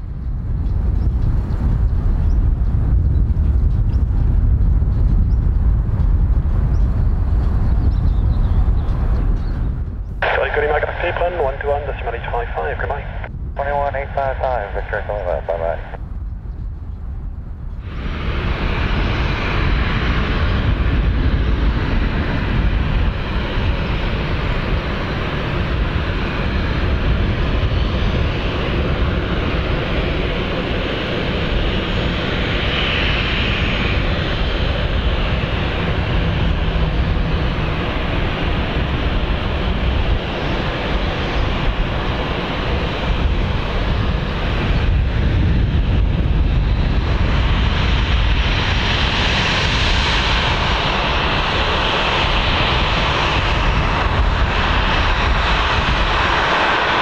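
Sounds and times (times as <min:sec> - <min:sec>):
jet engines rumbling and hissing: 0:00.0 - 0:57.0.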